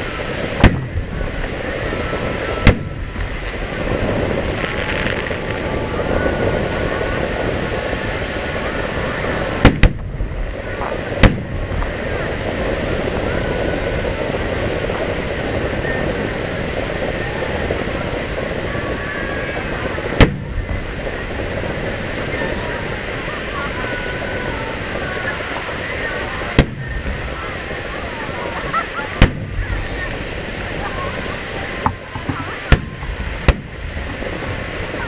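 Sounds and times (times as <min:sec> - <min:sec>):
fireworks bursting with bangs: 0:00.0 - 0:35.0.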